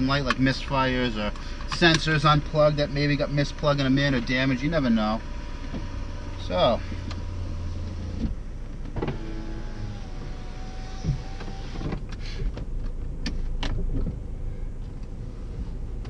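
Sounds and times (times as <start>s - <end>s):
steady whine: 0.0s - 15.9s.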